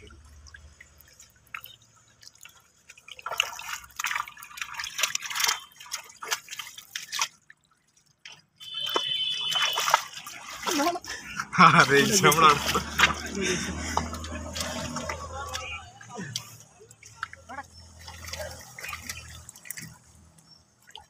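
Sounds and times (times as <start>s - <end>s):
muddy water splashing: 0.0s - 21.0s.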